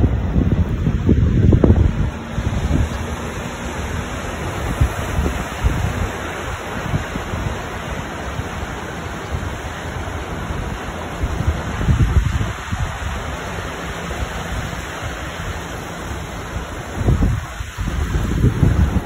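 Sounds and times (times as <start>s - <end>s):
surf washing up beach: 0.0s - 19.0s
wind gusting on microphone: 0.0s - 19.0s.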